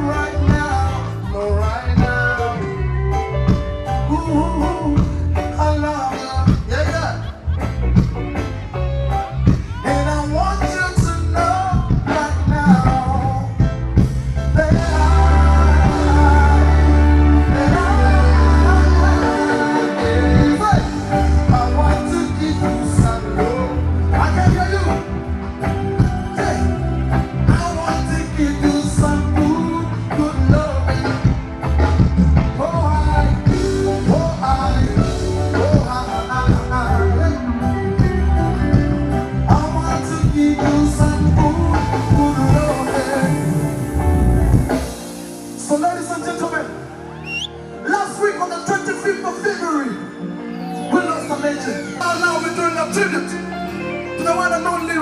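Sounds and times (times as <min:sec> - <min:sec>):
heavy bass: 0:00.0 - 0:45.4
reggae music with singing: 0:00.0 - 0:55.0.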